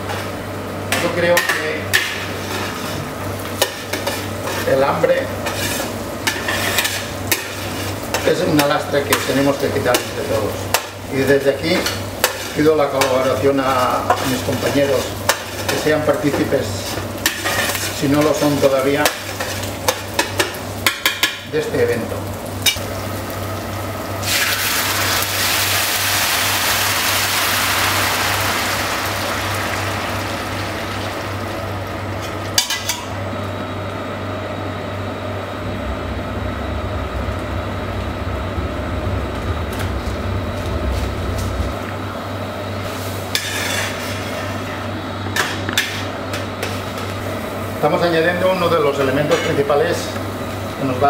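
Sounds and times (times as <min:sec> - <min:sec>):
steady simmer: 0:00.0 - 0:51.0.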